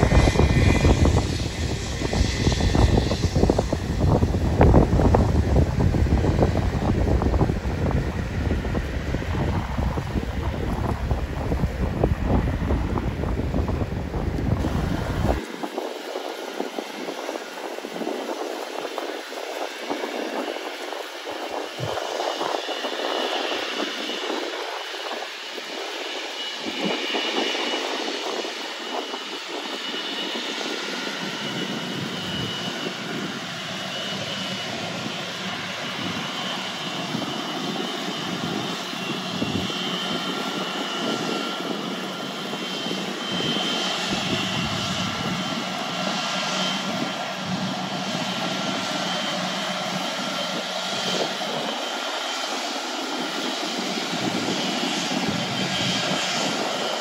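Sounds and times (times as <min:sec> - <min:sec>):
airplane engines whining: 0:00.0 - 0:57.0
wind on microphone: 0:00.0 - 0:57.0.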